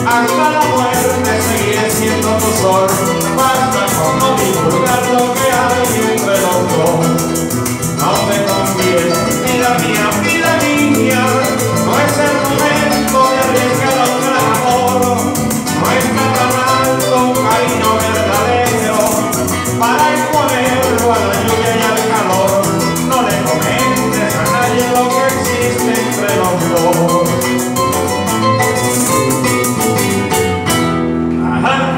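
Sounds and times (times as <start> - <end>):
maracas shaking: 0.0 - 30.8
strummed strings: 0.0 - 31.4
plucked harp: 0.2 - 31.1.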